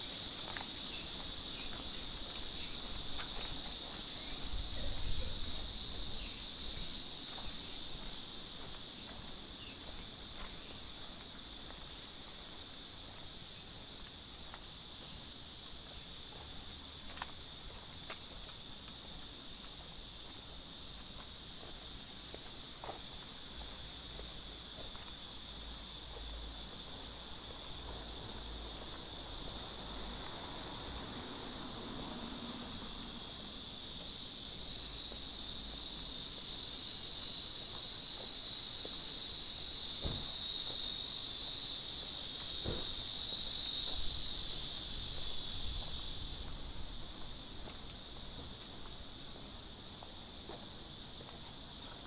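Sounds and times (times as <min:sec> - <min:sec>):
insect chorus buzzing: 0:00.0 - 0:52.0
faint footsteps: 0:00.1 - 0:30.4, 0:33.2 - 0:39.2, 0:41.4 - 0:52.0.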